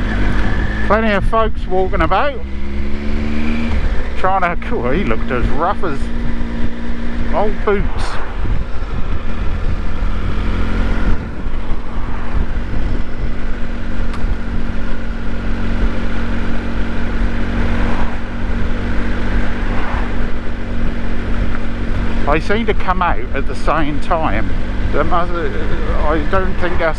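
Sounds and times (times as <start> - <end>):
motorcycle engine running: 0.0 - 26.9
road and wind noise: 0.0 - 26.9.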